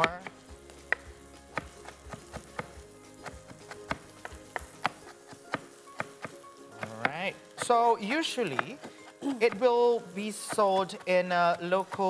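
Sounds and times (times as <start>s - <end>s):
knife chopping on cutting board: 0.0s - 7.8s, 8.4s - 12.0s
soft background music: 0.0s - 12.0s.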